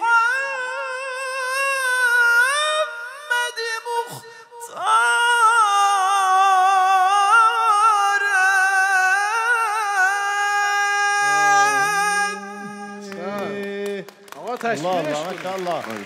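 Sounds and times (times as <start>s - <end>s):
man singing unaccompanied: 0.0s - 14.3s.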